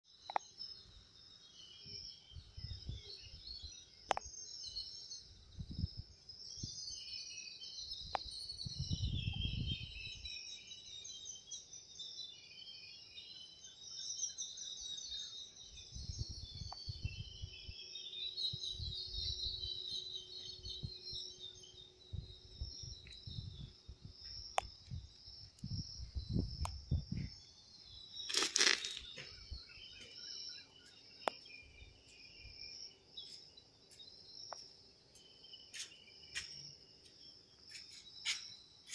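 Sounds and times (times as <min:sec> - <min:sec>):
birds chirping: 0:00.2 - 0:38.9.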